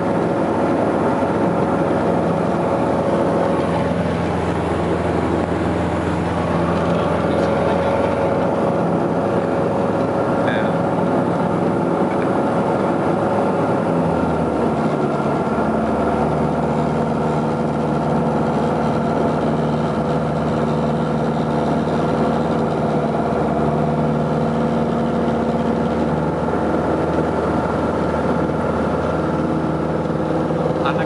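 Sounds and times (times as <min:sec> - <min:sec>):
vehicle engine drone: 0:00.0 - 0:31.0.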